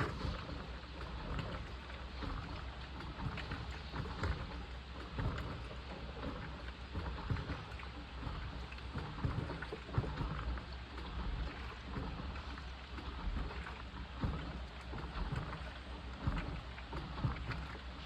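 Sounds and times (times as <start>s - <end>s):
washing machine sloshing and churning: 0.0s - 18.0s.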